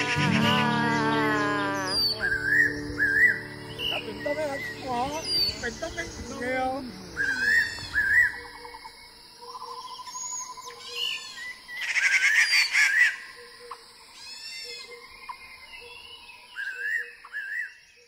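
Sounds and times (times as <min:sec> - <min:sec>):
birds singing and calling: 0:00.0 - 0:18.0.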